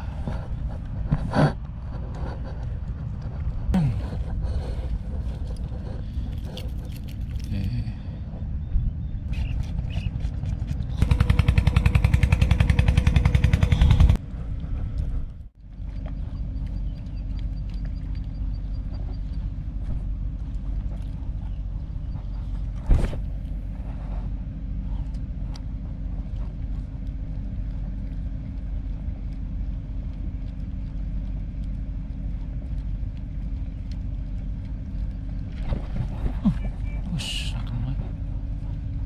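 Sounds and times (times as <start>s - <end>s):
boat engine rumble: 0.0s - 39.0s.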